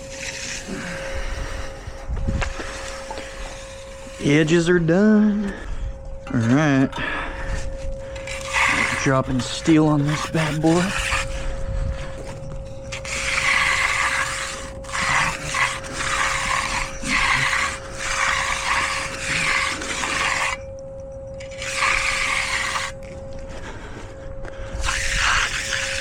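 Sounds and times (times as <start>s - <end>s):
trowel scraping concrete: 0.0s - 5.7s, 6.3s - 20.6s, 21.4s - 26.0s
faint steady hum: 0.0s - 26.0s.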